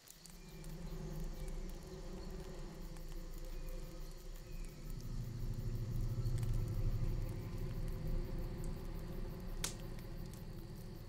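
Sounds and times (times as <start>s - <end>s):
faint scattered clicks: 0.0s - 11.0s
steady low rumble: 0.0s - 11.0s.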